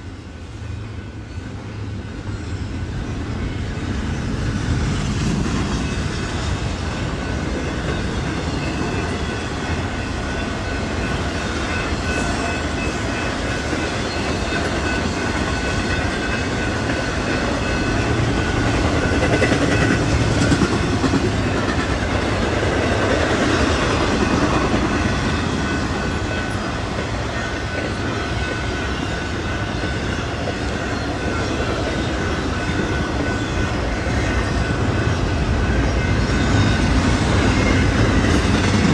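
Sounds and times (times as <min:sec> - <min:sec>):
freight train rumbling past: 0:00.0 - 0:38.9
wheels clattering on rails: 0:03.4 - 0:38.9.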